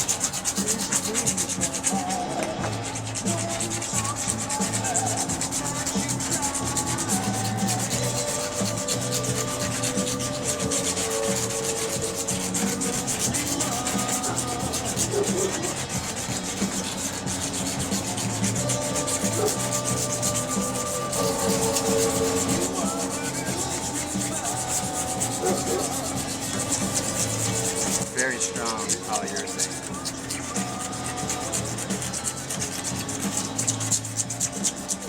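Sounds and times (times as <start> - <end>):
rubbing and scraping on car panel: 0.0 - 35.0.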